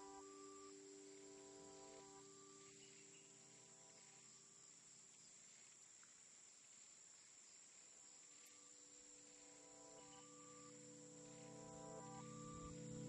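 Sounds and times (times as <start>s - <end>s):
soft sustained music tones: 0.0s - 5.6s, 7.7s - 13.0s
crickets chirring: 0.0s - 13.0s.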